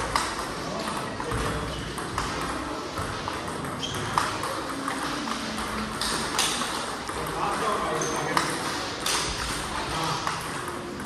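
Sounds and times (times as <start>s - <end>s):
table tennis ball clicks: 0.0s - 11.0s.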